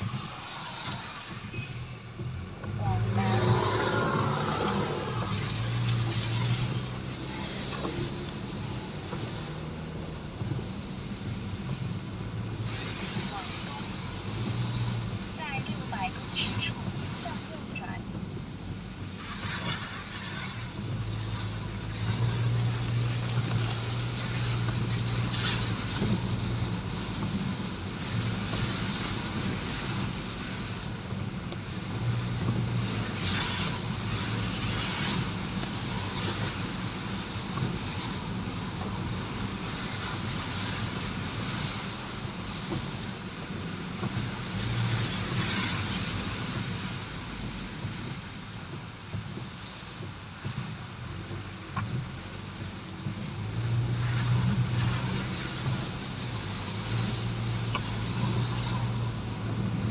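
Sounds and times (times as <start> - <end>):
road noise: 0.0 - 59.9
vehicle engine hum: 0.0 - 59.9.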